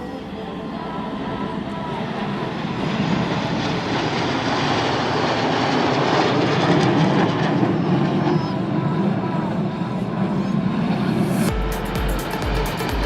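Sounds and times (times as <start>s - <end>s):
jets flying over: 0.0s - 13.0s.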